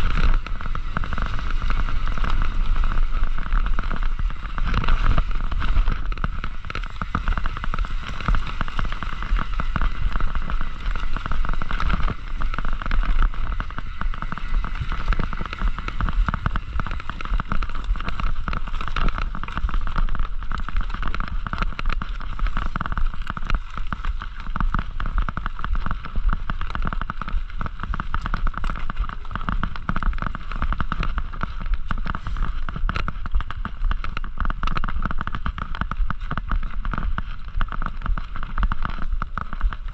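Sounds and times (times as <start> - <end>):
bike rattling and clicking: 0.0 - 39.9
bike tyre noise on ground: 0.0 - 39.9.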